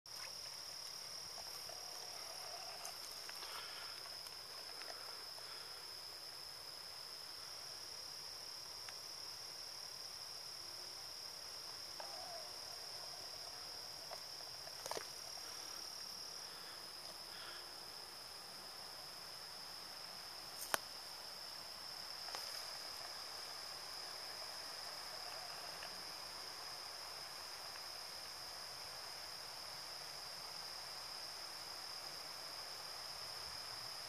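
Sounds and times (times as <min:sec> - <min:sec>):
faint outdoor hiss: 0:00.1 - 0:34.0
high-pitched insect trill: 0:00.1 - 0:34.0.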